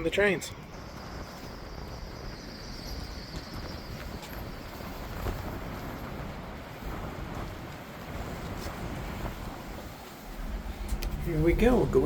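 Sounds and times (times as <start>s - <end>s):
traffic rumble: 0.0s - 12.0s
wind on microphone: 0.0s - 12.0s.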